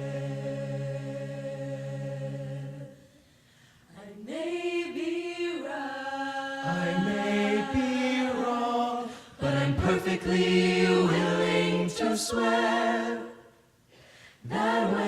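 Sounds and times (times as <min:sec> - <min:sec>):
a cappella group singing in harmony: 0:00.0 - 0:15.0.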